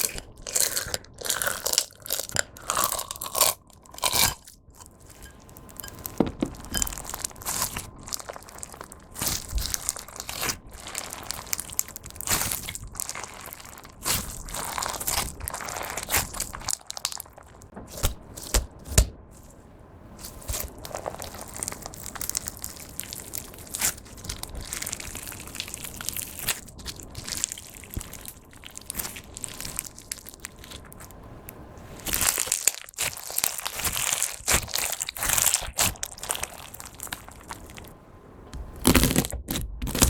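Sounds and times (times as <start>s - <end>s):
crunchy slime crackling and popping: 0.0s - 19.1s, 20.2s - 31.2s, 31.9s - 38.0s, 38.6s - 40.0s.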